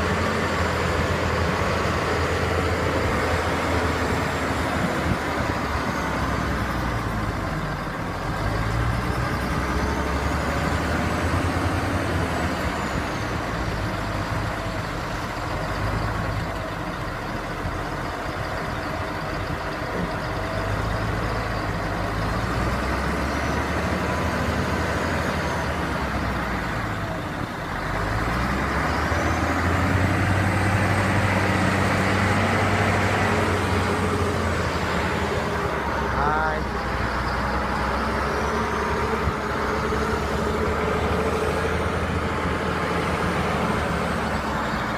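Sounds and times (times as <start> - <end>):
truck diesel engine running: 0.0 - 44.9.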